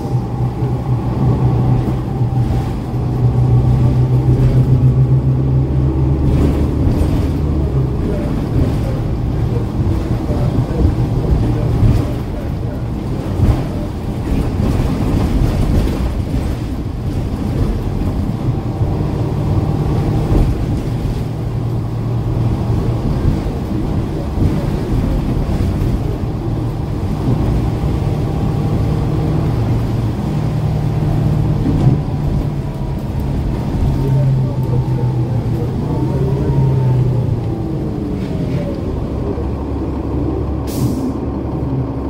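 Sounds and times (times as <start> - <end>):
bus diesel engine idling: 0.0 - 42.0.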